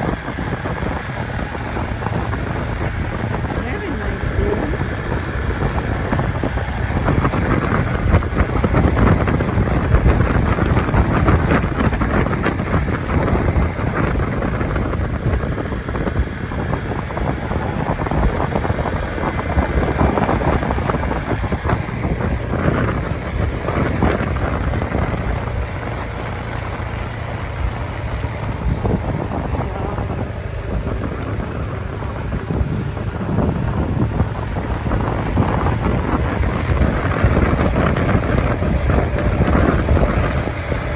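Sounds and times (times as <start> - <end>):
motorcycle running: 0.0 - 40.9
wind buffeting microphone: 0.0 - 40.9.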